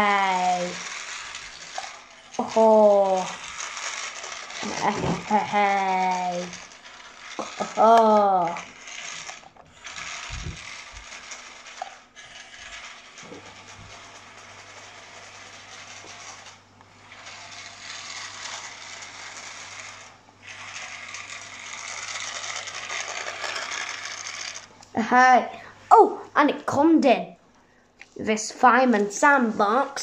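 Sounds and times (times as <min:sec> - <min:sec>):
toy helicopter motor rattling: 0:00.0 - 0:25.4.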